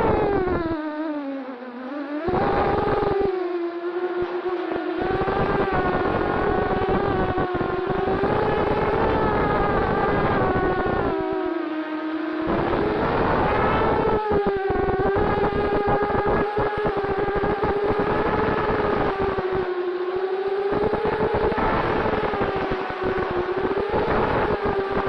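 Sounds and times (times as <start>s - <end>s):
wind rumble on microphone: 0.0s - 1.2s, 2.2s - 3.4s, 4.0s - 11.4s, 12.3s - 19.8s, 20.6s - 25.0s
drone propellers whining: 0.0s - 25.0s.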